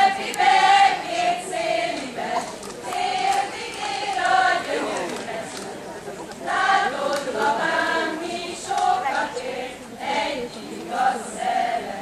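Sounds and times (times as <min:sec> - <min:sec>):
women singing together: 0:00.0 - 0:05.5, 0:06.4 - 0:12.0.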